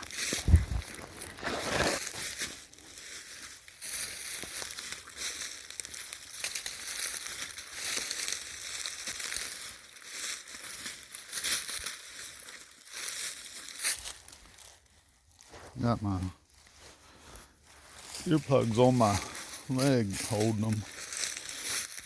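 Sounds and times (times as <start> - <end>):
footsteps crunching through dry leaves: 0.0 - 22.0.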